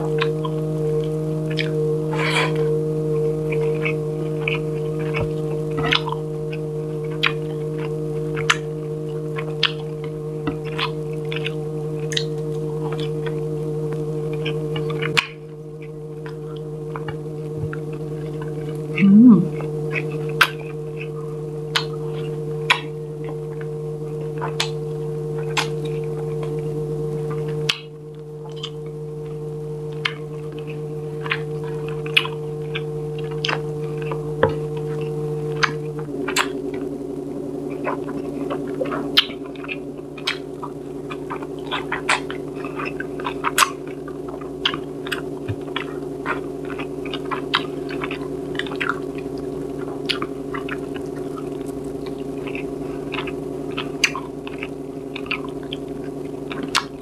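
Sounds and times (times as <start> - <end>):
steady hum of held tones: 0.0 - 57.0
chewing clicks and smacks: 0.1 - 2.6, 3.5 - 8.7, 9.3 - 13.4, 14.3 - 18.5, 19.9 - 23.7, 24.4 - 24.8, 25.4 - 26.6, 28.5 - 28.8, 30.0 - 36.8, 37.7 - 57.0.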